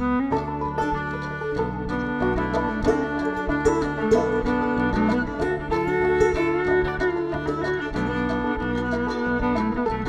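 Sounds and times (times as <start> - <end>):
plucked string folk music: 0.0 - 10.0.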